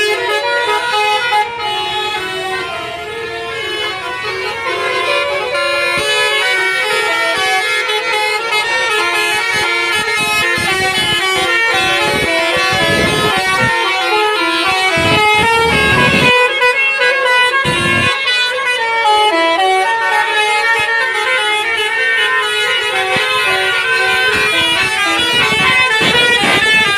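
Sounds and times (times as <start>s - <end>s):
multi-tone air horn melody: 0.0s - 26.9s.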